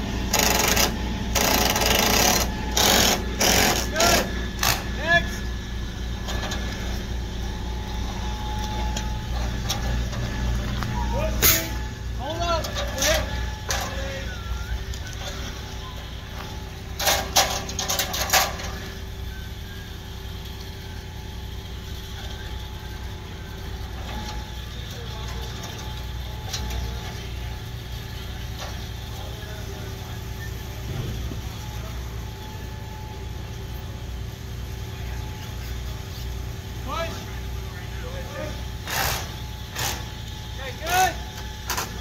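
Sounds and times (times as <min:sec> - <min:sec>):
engine droning: 0:00.0 - 0:42.0.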